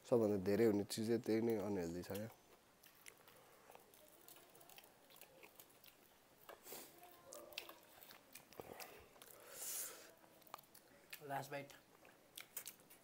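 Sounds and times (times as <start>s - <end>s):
people chewing: 1.4s - 13.0s.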